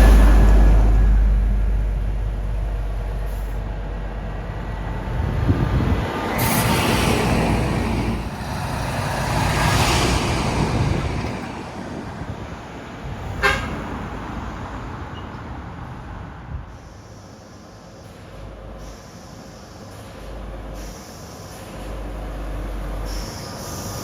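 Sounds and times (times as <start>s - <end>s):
large trucks driving past: 0.0s - 24.0s.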